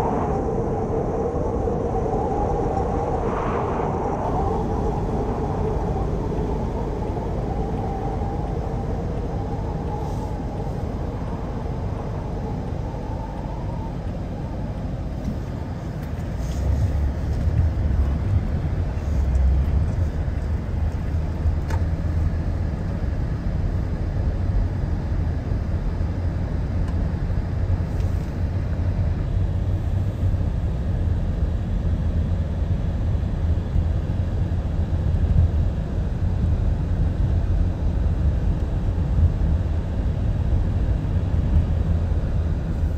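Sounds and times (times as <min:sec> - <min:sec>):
blizzard wind buffeting microphone: 0:00.0 - 0:42.9.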